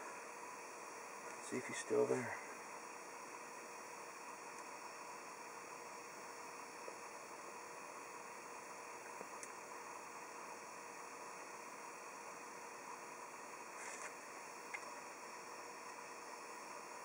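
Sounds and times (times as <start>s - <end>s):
faint hum tone: 0.0s - 17.0s
steady hiss: 0.0s - 17.0s.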